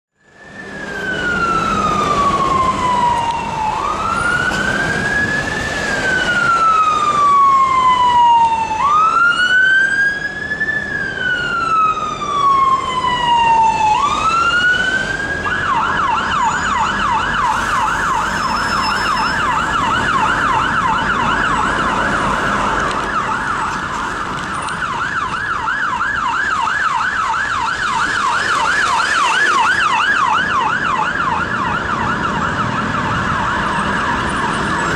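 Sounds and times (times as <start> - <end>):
city traffic: 0.1 - 34.9
siren wailing and yelping: 0.4 - 34.9.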